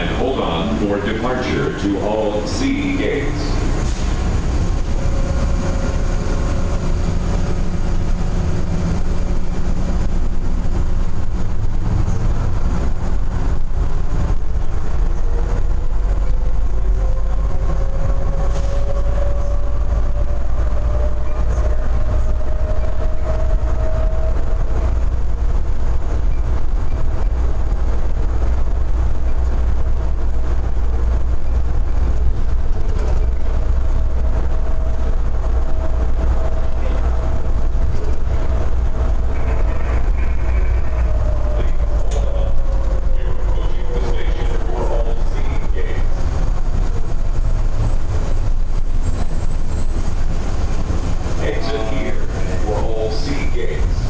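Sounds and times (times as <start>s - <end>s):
train rumbling on rubber tyres: 0.0s - 54.0s.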